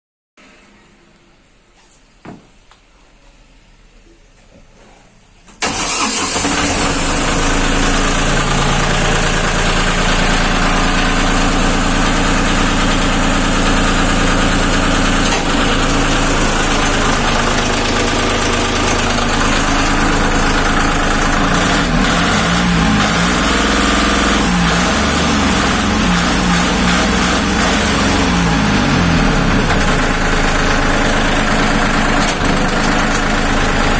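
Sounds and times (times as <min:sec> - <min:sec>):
diesel engine running: 0:05.6 - 0:33.9.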